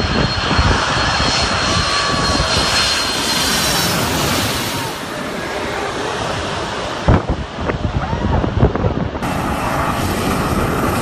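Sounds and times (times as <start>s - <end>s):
jet engines roaring overhead: 0.0s - 11.0s.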